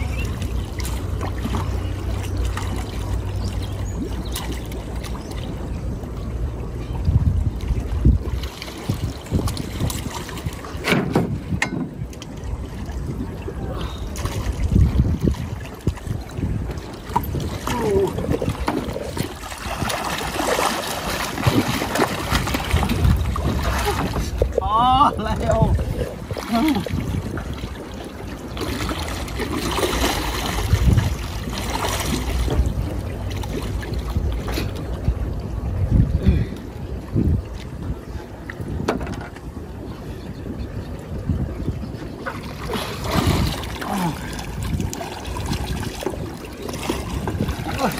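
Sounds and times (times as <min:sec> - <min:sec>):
water sloshing and splashing: 0:00.0 - 0:47.9
wind buffeting microphone: 0:00.0 - 0:47.9.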